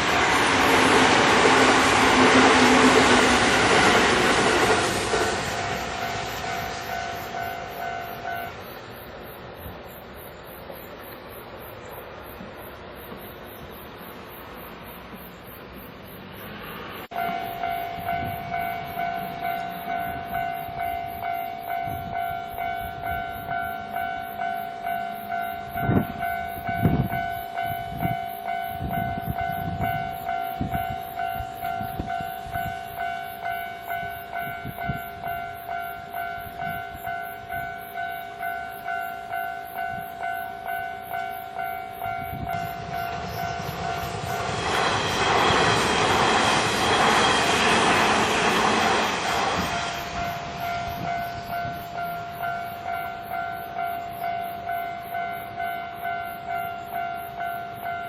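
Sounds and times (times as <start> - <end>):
train wheels clattering: 0.0 - 9.1, 16.9 - 55.0
level-crossing alarm ringing: 0.0 - 12.0, 12.6 - 58.0
train passing with a rush: 0.0 - 58.0.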